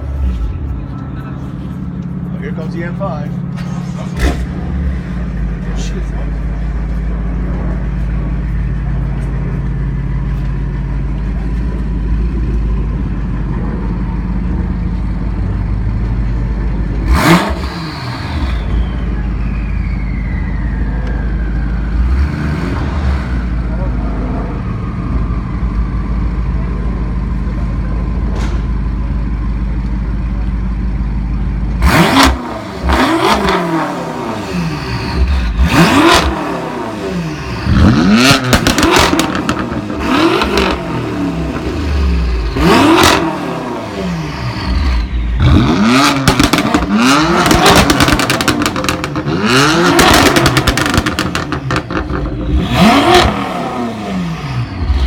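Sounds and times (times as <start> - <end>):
car engine revving with crackling exhaust: 0.0 - 55.0.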